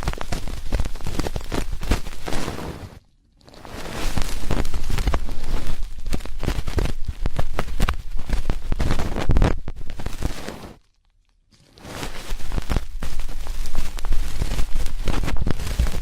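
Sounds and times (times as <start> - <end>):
ear pick scratching microphone: 0.0 - 3.0, 3.6 - 10.8, 11.8 - 16.0.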